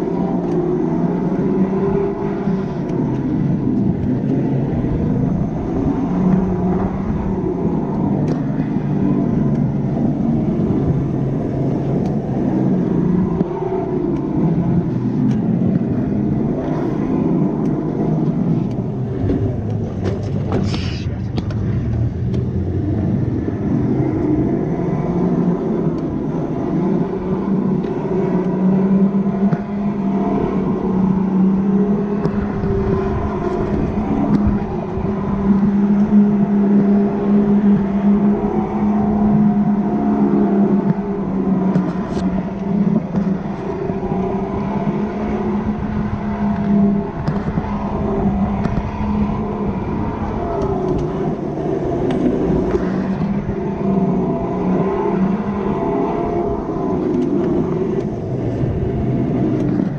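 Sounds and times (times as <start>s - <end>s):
electric motor whine: 0.0s - 59.9s
wind rushing on microphone: 0.0s - 59.9s.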